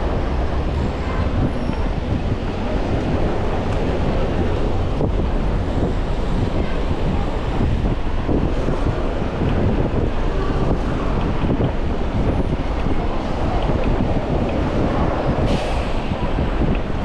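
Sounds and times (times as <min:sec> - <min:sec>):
road traffic: 0:00.0 - 0:17.0
wind buffeting microphone: 0:00.0 - 0:17.0.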